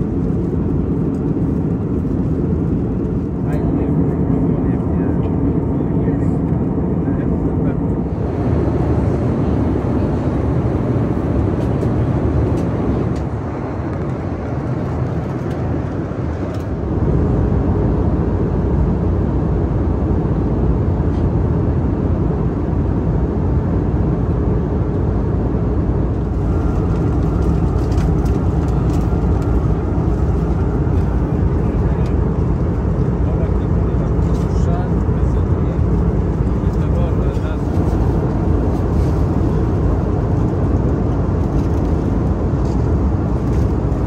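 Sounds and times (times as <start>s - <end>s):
airplane cabin roar: 0.0s - 44.0s.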